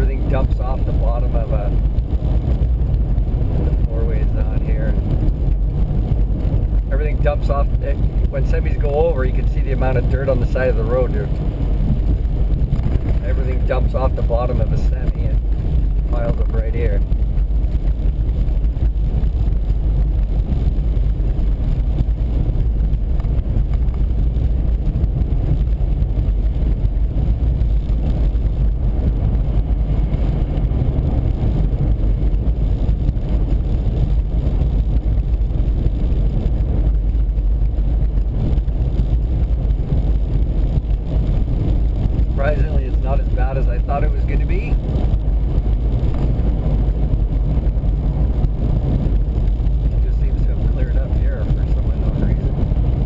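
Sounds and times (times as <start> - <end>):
car cabin road and wind noise: 0.0 - 53.0.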